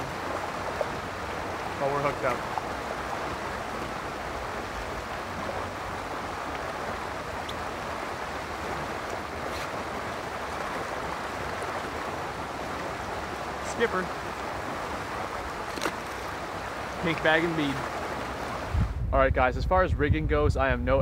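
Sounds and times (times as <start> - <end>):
river water rushing over riffles: 0.0 - 18.9.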